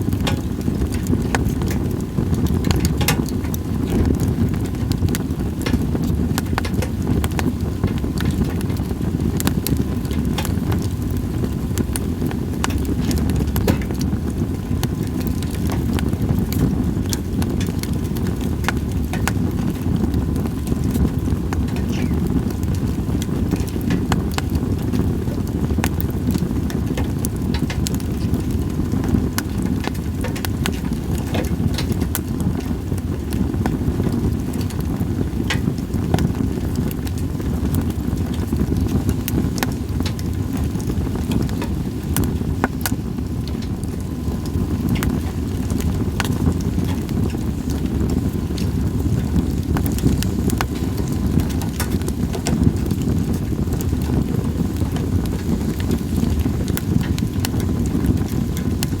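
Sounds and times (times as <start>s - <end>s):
campfire crackling and popping: 0.0s - 59.0s
low fire rumble: 0.0s - 59.0s.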